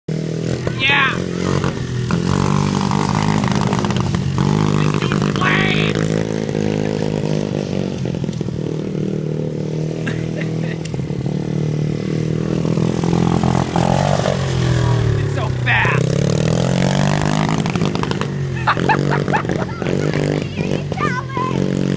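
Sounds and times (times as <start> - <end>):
motorbike engine running: 0.1 - 21.9.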